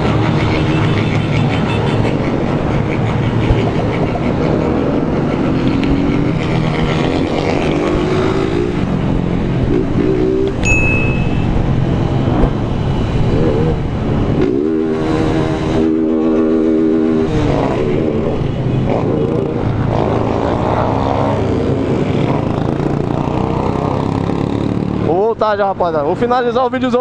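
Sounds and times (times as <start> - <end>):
motorcycle engines revving: 0.0 - 11.2, 12.1 - 25.4.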